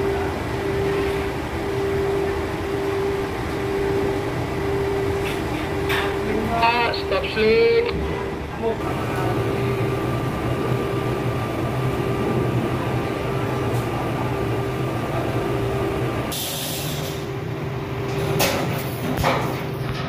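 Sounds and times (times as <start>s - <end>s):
machinery engine hum: 0.0s - 20.0s.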